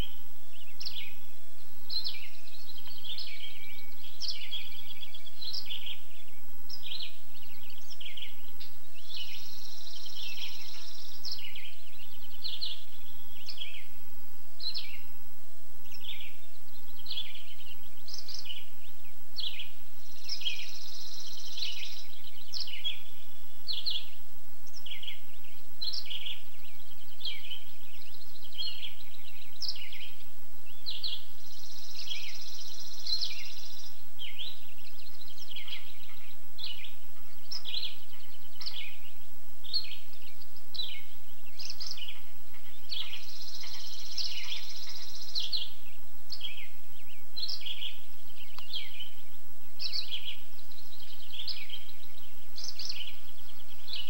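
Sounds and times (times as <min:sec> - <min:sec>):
birds chirping: 0:00.0 - 0:54.0
faint steady hum: 0:00.0 - 0:54.0.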